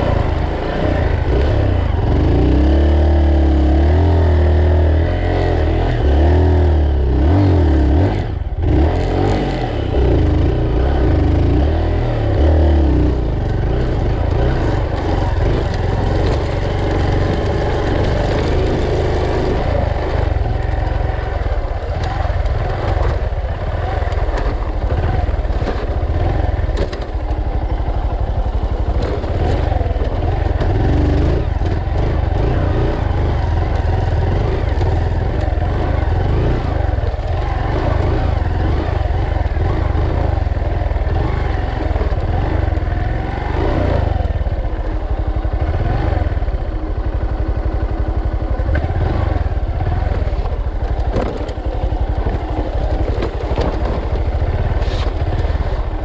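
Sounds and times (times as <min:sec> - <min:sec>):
motorcycle engine on dirt: 0:00.0 - 0:56.0.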